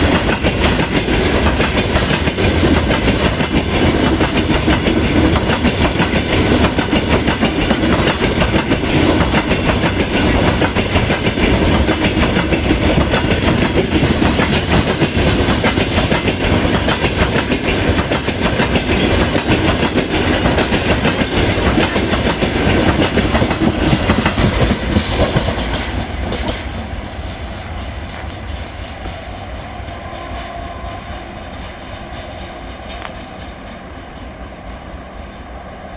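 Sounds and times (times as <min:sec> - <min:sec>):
train wheels clattering over rails: 0:00.0 - 0:35.6.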